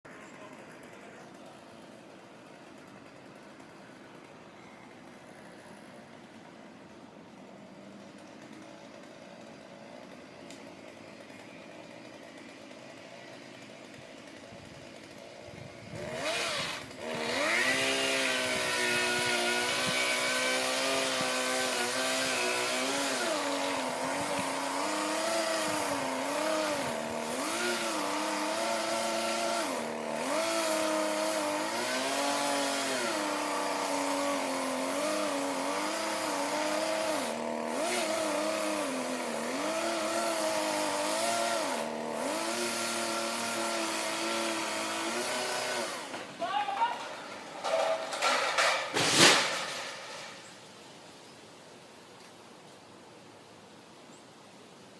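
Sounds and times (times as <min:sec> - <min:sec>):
chainsaw cutting wood: 0:00.1 - 0:04.3, 0:07.9 - 0:50.6.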